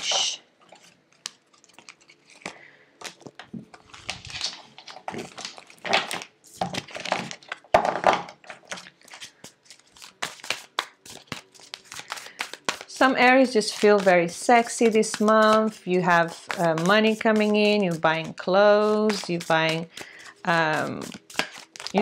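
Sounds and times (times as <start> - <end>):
cards being shuffled: 0.0 - 7.6, 8.6 - 22.0.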